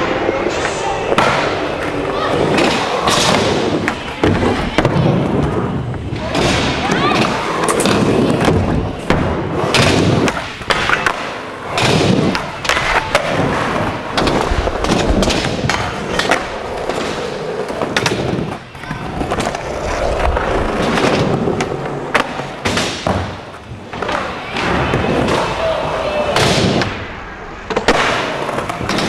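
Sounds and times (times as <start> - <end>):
skateboard wheels rolling on concrete: 0.0 - 29.0.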